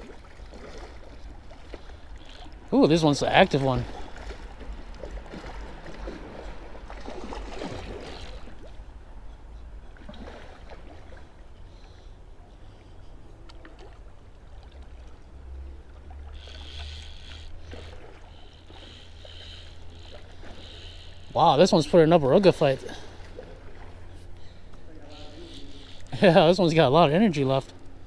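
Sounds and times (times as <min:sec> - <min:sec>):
fish splashing in shallow water: 0:00.0 - 0:09.0, 0:09.9 - 0:12.2, 0:13.4 - 0:26.8.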